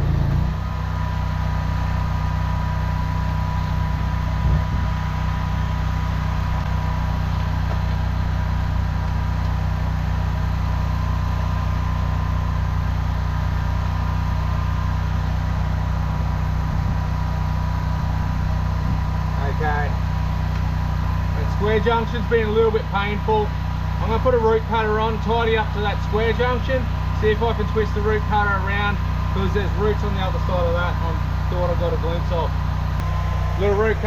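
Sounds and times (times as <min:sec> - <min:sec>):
engine droning with whine: 0:00.0 - 0:34.0.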